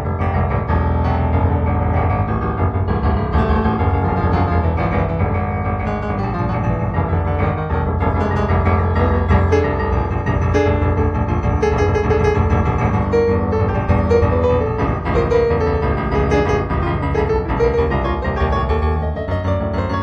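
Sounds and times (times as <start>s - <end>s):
solo piano improvisation: 0.0s - 20.0s.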